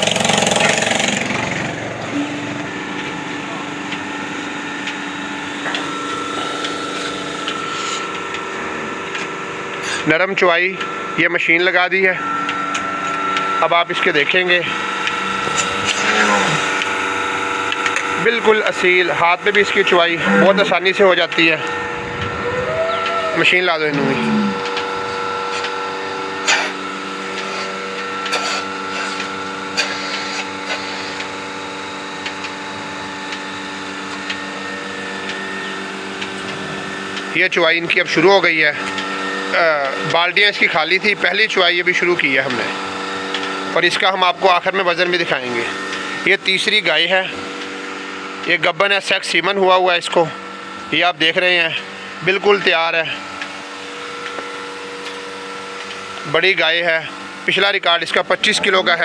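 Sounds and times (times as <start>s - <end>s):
vacuum pump running: 0.0s - 59.0s.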